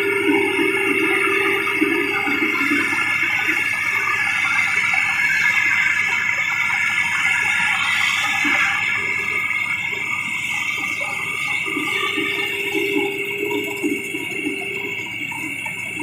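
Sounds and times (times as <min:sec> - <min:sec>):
combine harvester running: 0:00.0 - 0:16.0
machine whining tones: 0:00.0 - 0:16.0.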